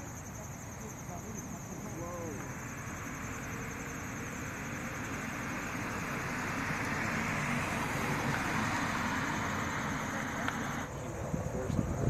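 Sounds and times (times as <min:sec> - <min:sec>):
passing vehicle tyres and engine: 0:00.0 - 0:12.0.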